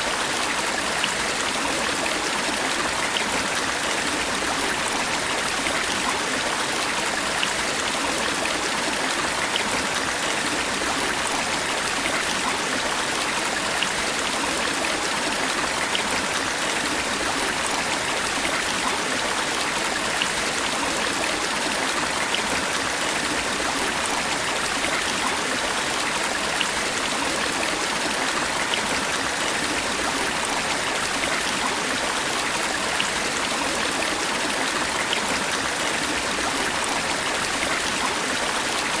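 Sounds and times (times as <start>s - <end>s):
stream of water rushing: 0.0s - 39.0s.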